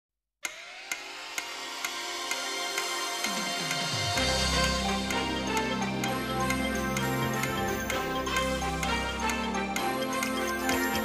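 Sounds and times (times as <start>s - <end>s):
electronic theme music: 0.4s - 11.0s.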